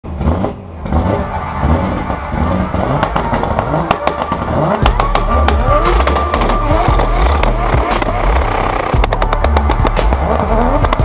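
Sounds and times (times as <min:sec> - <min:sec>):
car engine rumbling and revving: 0:00.0 - 0:11.0
sharp exhaust cracks: 0:02.0 - 0:11.0.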